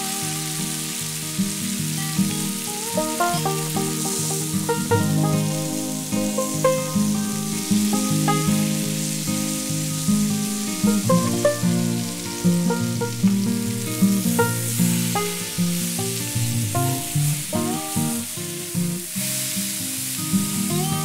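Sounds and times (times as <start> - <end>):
chicken sizzling in a pan: 0.0 - 21.0
plucked-note background music: 2.2 - 19.2.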